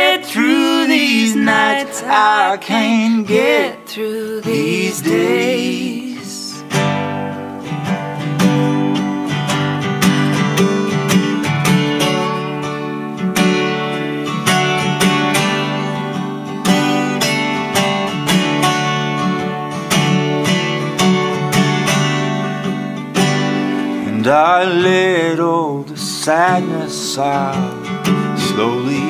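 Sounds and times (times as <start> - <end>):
acoustic guitar folk melody: 0.0 - 29.0.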